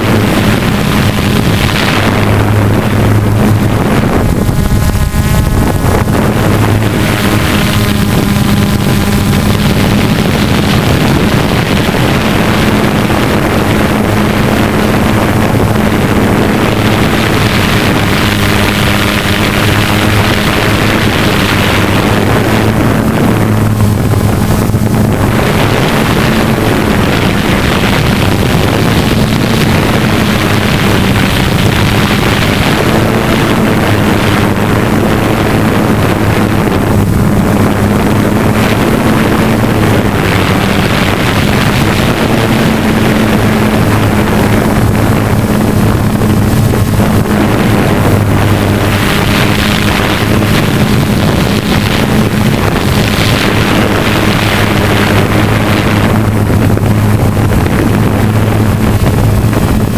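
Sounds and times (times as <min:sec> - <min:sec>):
drone motors humming: 0:00.0 - 0:59.9
wind noise on microphone: 0:00.0 - 0:59.9.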